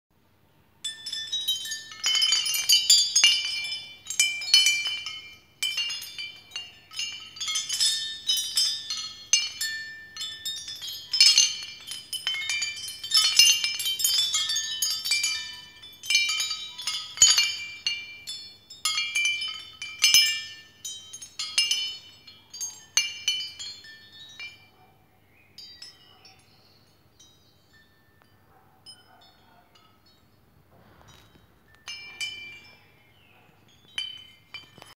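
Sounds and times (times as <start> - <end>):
ceramic wind chime clinking: 0.8 - 34.9.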